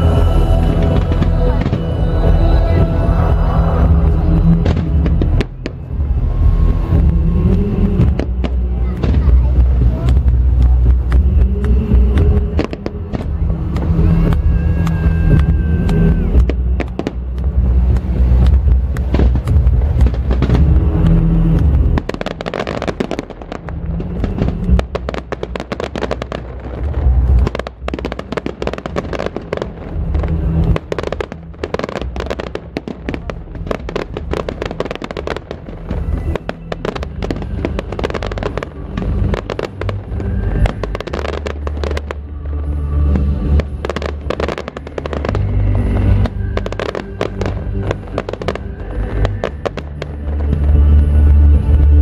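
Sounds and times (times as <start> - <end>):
fireworks crackling and popping: 0.0 - 52.0
heavy low rumble: 0.0 - 52.0.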